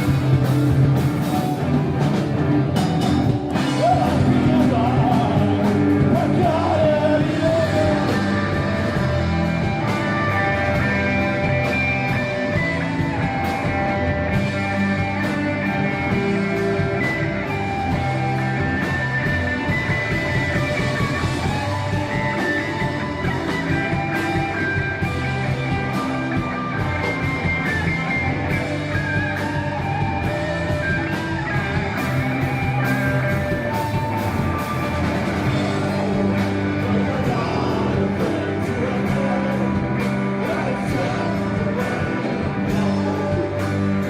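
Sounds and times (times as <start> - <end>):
rock band playing: 0.0 - 44.0.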